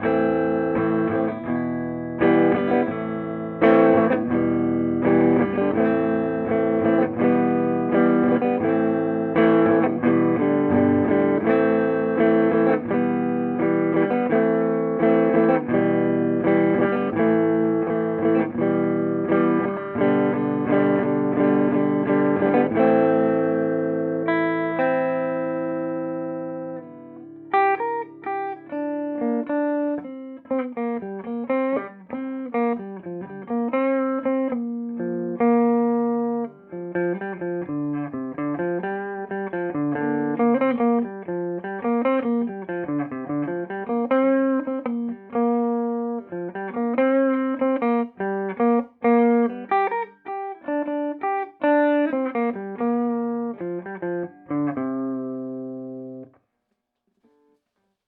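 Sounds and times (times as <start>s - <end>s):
clean electric guitar: 0.0s - 56.4s.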